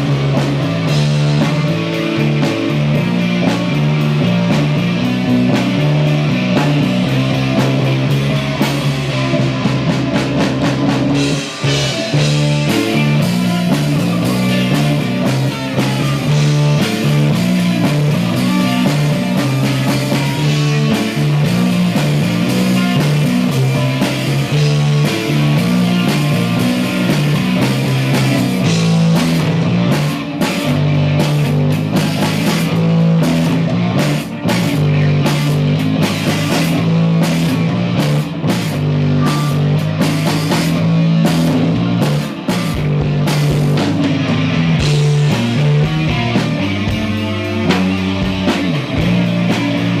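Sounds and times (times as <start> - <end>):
bass line: 0.0 - 50.0
drum kit: 0.0 - 50.0
electric guitar: 0.0 - 50.0.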